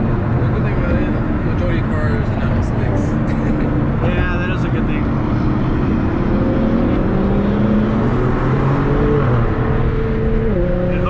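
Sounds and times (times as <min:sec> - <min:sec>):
car engine accelerating: 0:00.0 - 0:11.0
road noise: 0:00.0 - 0:11.0.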